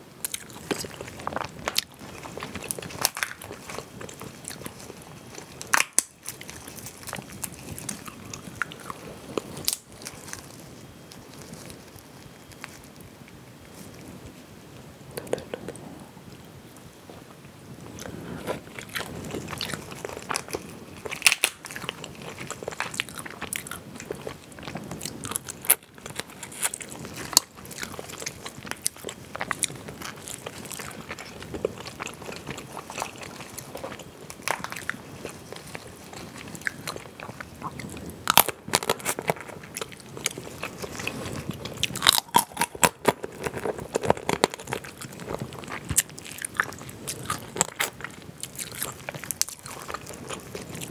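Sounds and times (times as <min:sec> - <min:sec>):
wet chewing: 0:00.2 - 0:14.0, 0:17.9 - 0:50.9
crayfish shells cracking: 0:00.3 - 0:13.0, 0:18.8 - 0:50.9.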